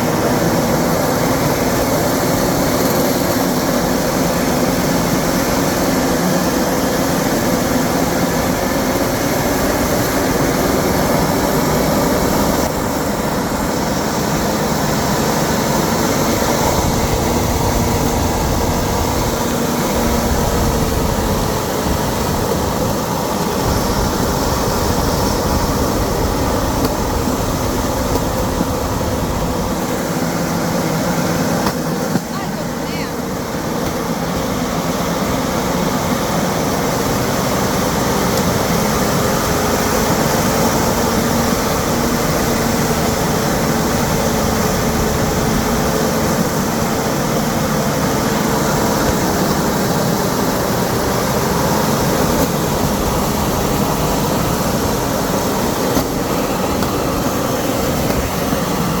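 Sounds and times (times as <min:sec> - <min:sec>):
moving vehicle rumble and hiss: 0:00.0 - 0:59.0.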